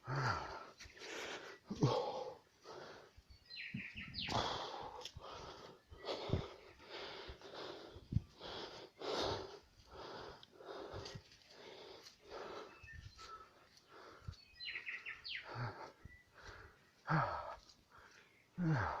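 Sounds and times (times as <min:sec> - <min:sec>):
quick rhythmic breathing: 0:00.0 - 0:19.0.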